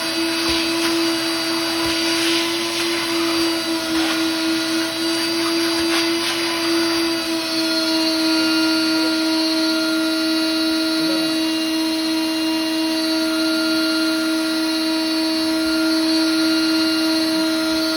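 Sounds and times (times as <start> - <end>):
vacuum cleaner running: 0.0 - 17.9.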